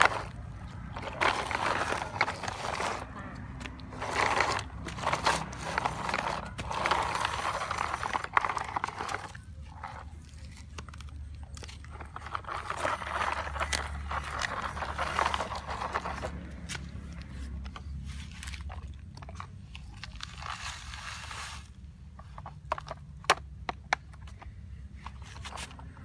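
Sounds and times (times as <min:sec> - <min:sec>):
toy truck scraping on gritty dirt: 0:00.0 - 0:26.0.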